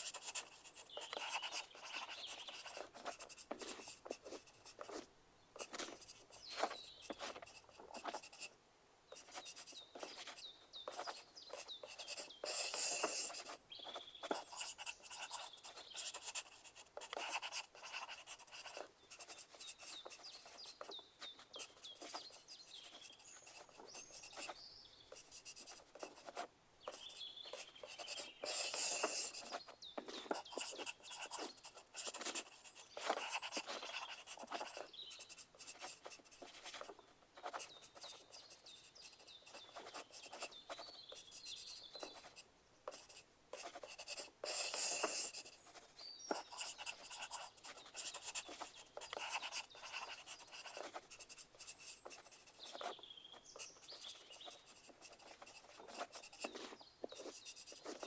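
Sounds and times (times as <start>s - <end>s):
pencil writing on paper: 0.0s - 58.0s.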